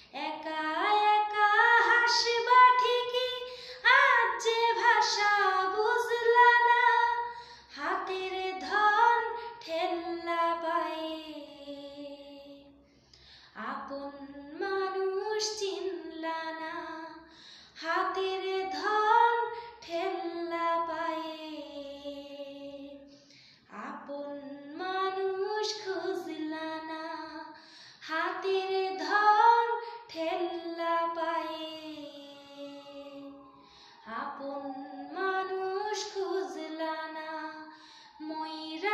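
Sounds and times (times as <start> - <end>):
woman singing unaccompanied: 0.0 - 12.8, 13.6 - 23.1, 23.7 - 38.9.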